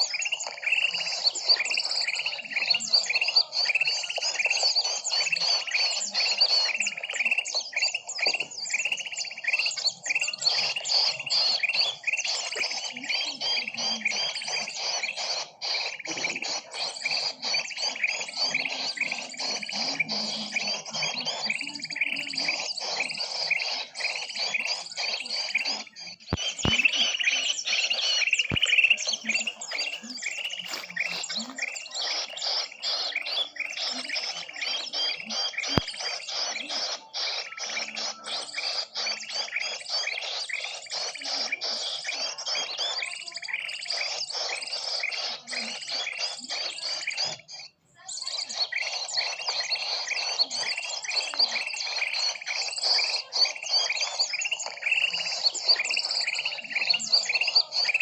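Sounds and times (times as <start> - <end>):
many small birds chirping: 0.0 - 58.0.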